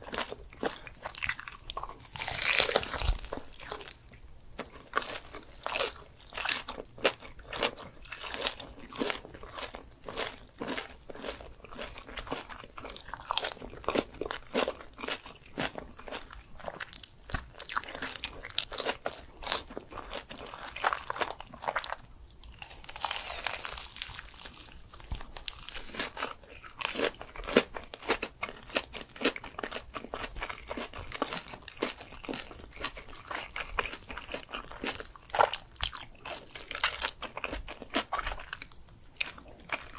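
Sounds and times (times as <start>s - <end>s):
crisp food being chewed: 0.0s - 39.9s.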